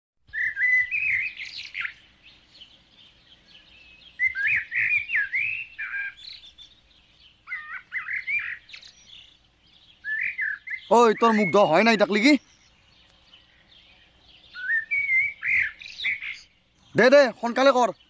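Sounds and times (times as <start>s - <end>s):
birds chirping whistled notes: 0.3s - 18.0s.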